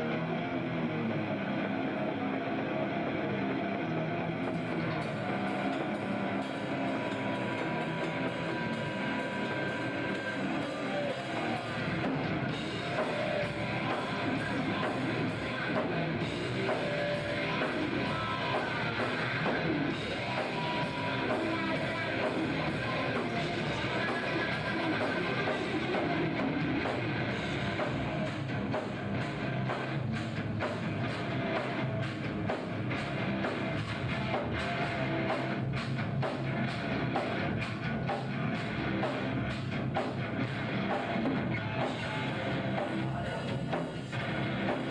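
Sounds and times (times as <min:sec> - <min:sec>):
guitar: 0:00.0 - 0:44.9
hard rock band music: 0:00.0 - 0:44.9
drum kit beat: 0:04.5 - 0:44.9.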